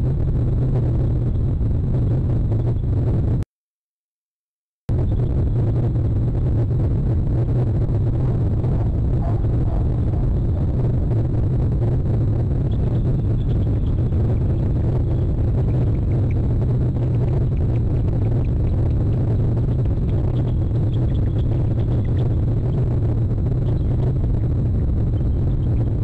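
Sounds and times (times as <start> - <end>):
low rumble: 0.0 - 3.4, 4.9 - 26.0.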